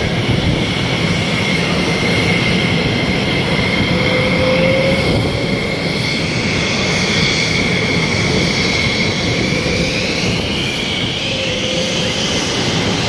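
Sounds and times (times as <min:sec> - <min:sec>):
aircraft engine roar: 0:00.0 - 0:13.0
high engine whine: 0:00.0 - 0:13.0.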